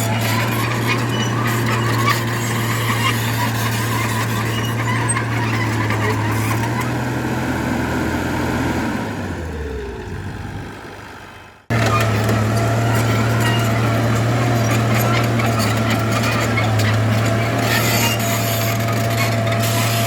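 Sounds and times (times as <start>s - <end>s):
heavy diesel engine: 0.0s - 20.0s.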